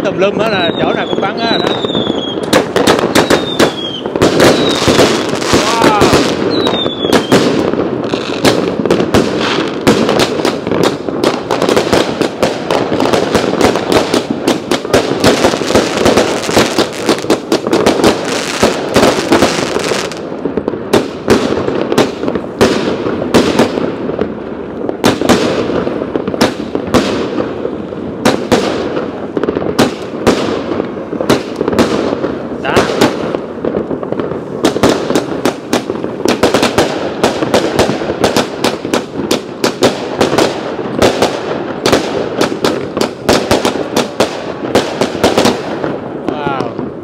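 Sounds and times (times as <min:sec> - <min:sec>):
distant fireworks rumble: 0:00.0 - 0:47.0
fireworks bangs and crackles: 0:00.0 - 0:47.0.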